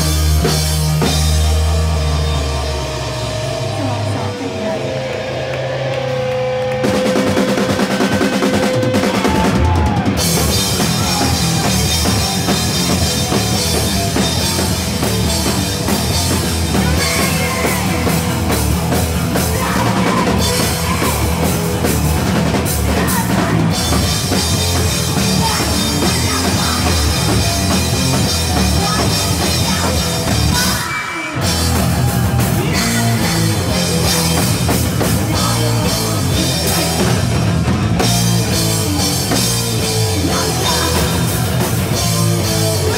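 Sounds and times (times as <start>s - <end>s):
electric guitar: 0.0s - 42.9s
live rock band playing: 0.0s - 42.9s
pounding drum kit: 0.0s - 42.9s.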